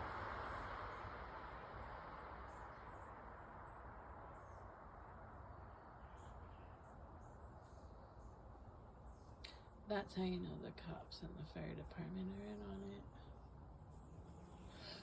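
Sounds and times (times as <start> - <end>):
faint vehicle noise: 0.0 - 15.0
low background rumble: 0.0 - 15.0.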